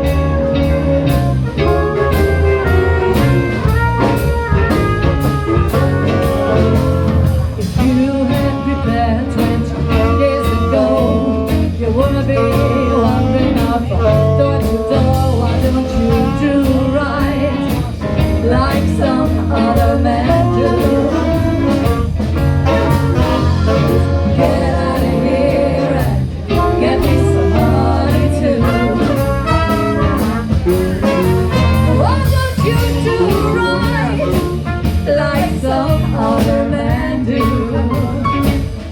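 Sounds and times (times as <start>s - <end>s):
bass: 0.0s - 38.9s
drum kit: 0.0s - 38.9s
live band playing jazz: 0.0s - 38.9s
person singing: 5.6s - 38.8s.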